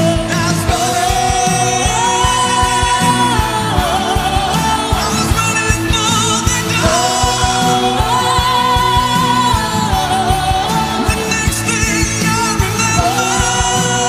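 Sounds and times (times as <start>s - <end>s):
man singing with vibrato: 0.0s - 14.0s
rock band playing: 0.0s - 14.0s.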